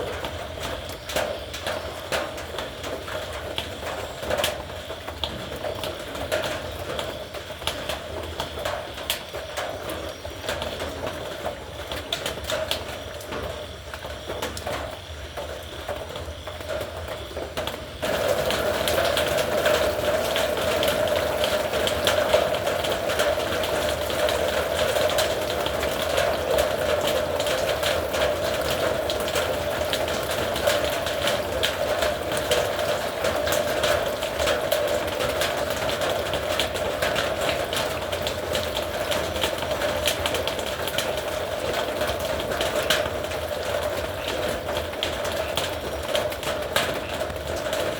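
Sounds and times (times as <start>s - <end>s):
rain on a tin roof: 0.0s - 47.9s.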